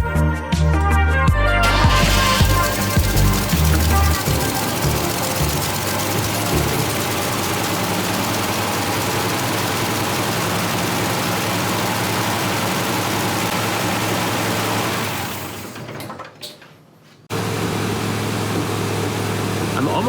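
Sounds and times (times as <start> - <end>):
car engine idling: 1.6 - 15.8, 17.3 - 20.0.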